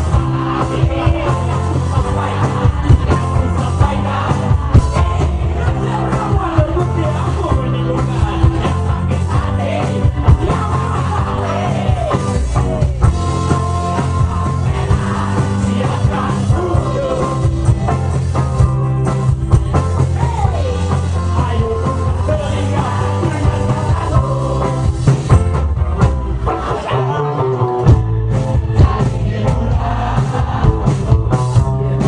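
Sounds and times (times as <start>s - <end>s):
lead singer singing: 0.0s - 18.4s, 19.6s - 25.3s, 26.4s - 32.0s
electric guitars: 0.0s - 32.0s.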